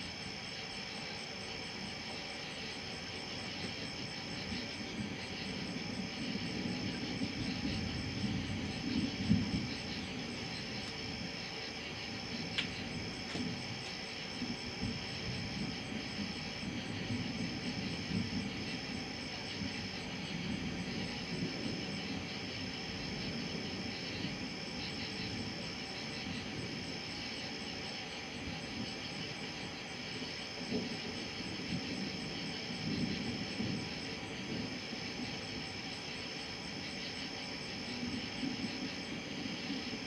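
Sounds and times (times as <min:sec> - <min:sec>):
insects trilling: 0:00.0 - 0:40.0
pulsing insect chirp: 0:00.0 - 0:40.0.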